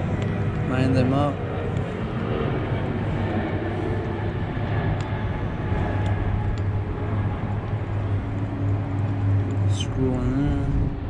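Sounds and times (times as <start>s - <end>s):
low rumbling like distant traffic: 0.0s - 11.0s.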